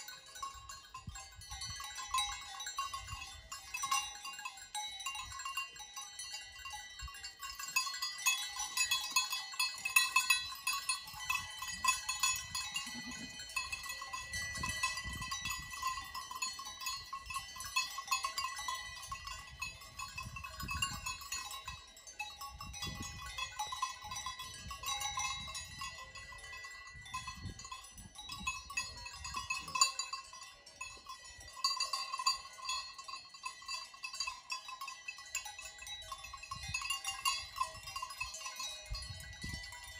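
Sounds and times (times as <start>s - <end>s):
livestock bells clanking: 0.0s - 39.9s.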